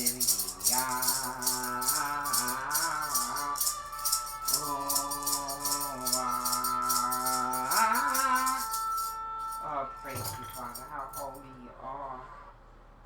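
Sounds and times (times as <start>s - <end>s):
shaker rattling rhythmically: 0.0s - 11.4s
person singing long wordless note: 0.0s - 12.6s.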